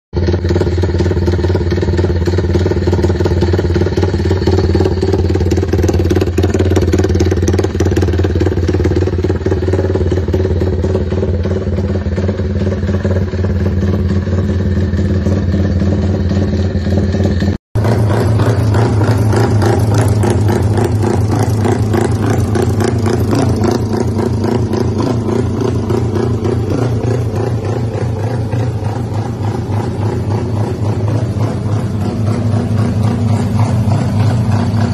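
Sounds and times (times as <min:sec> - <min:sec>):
engine running: 0:00.2 - 0:34.9.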